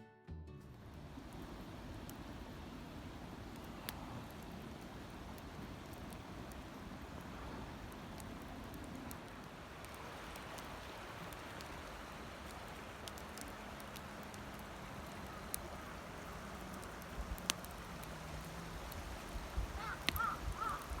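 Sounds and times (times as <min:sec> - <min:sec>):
campfire crackling and popping: 0:00.6 - 0:21.0.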